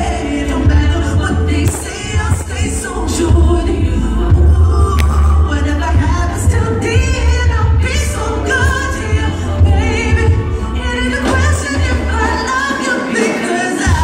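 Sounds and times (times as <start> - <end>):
live band with heavy bass: 0.0 - 14.0
woman singing into microphone: 0.0 - 14.0.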